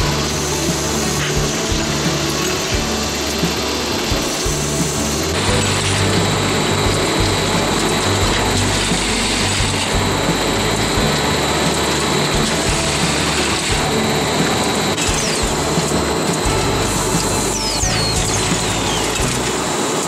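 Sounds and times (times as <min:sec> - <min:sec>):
machine mechanical clatter: 0:00.0 - 0:20.0.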